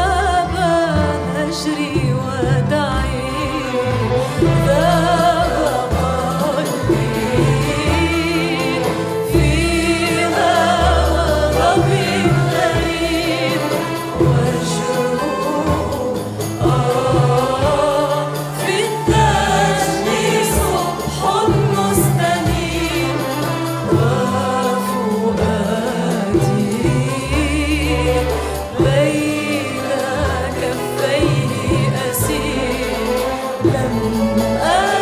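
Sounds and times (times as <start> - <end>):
choir singing with vibrato: 0.0 - 35.0
orchestra of bowed strings: 0.0 - 35.0.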